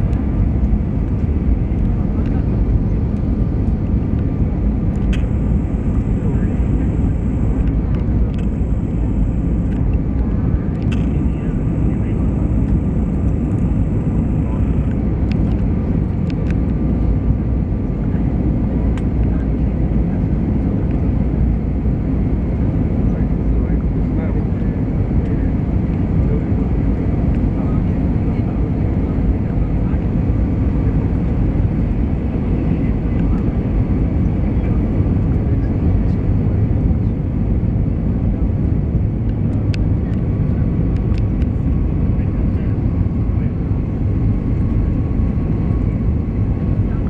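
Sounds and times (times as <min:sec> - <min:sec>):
aircraft engines rumbling: 0:00.0 - 0:47.0.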